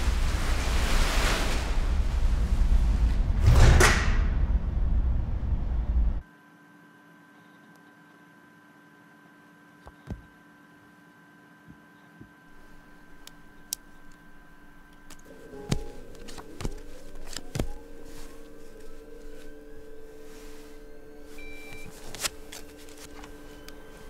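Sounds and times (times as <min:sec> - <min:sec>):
electronic equipment hum: 0:04.5 - 0:24.0.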